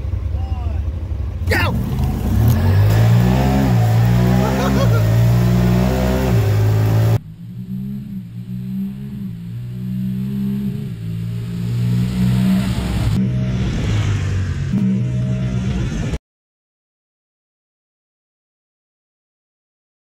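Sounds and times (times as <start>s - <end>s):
off-road vehicles accelerating: 0.0s - 16.2s.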